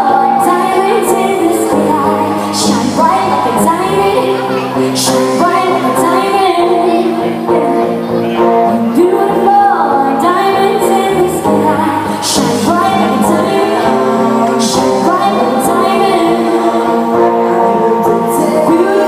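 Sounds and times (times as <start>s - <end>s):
guitar accompaniment: 0.0s - 19.0s
woman singing into a microphone: 0.0s - 19.0s.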